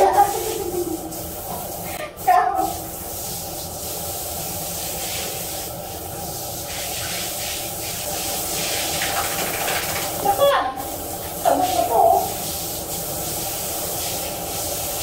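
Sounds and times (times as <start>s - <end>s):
shower head spraying water: 0.0s - 15.0s.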